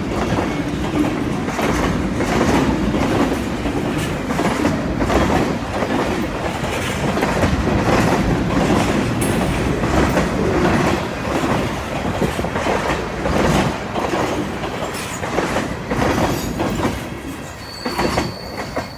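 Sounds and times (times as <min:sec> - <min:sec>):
freight train cars rolling past: 0:00.0 - 0:18.9
wheels clacking over rail joints: 0:00.0 - 0:18.9.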